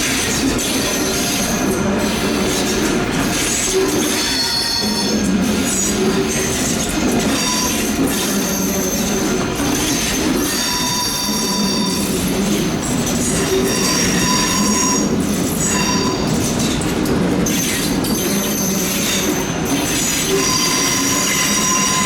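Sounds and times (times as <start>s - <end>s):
train wheels squealing on rails: 0.0s - 22.0s.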